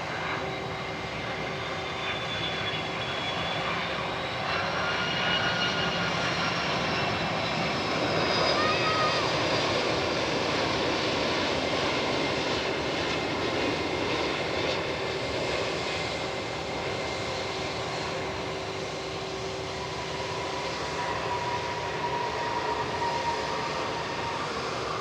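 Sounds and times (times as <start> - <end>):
jet engine whine: 0.0 - 25.0
jet engines rushing rumble: 0.0 - 25.0.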